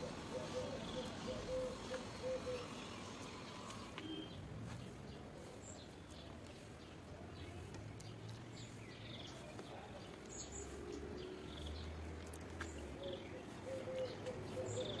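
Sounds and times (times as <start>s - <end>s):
small birds chirping high: 0.0s - 15.0s.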